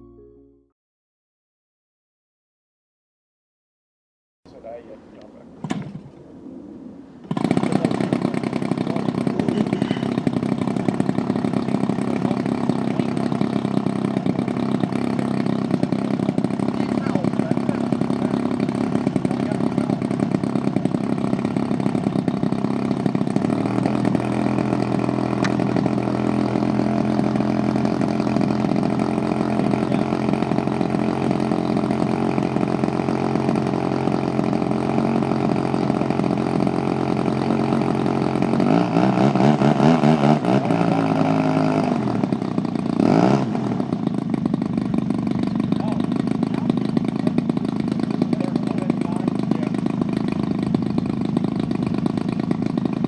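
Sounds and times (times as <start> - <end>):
model airplane engine running: 4.5 - 53.0.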